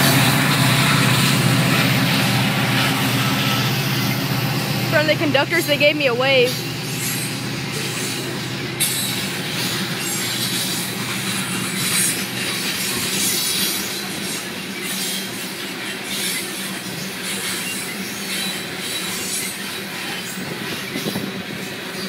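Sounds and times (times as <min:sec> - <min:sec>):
faint high wheel squeal: 0:00.0 - 0:22.0
train wheels clattering on rails: 0:00.0 - 0:22.0.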